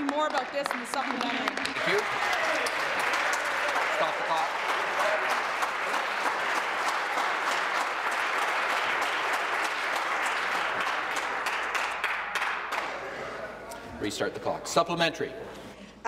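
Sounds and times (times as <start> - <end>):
many hands clapping: 0.0 - 13.2.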